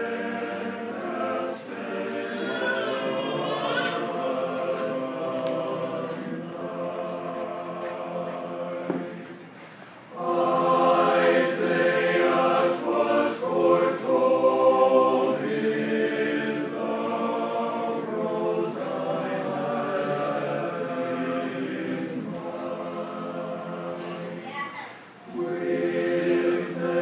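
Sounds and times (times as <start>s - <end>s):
men's chorus singing a cappella: 0.0s - 24.4s, 25.2s - 27.0s.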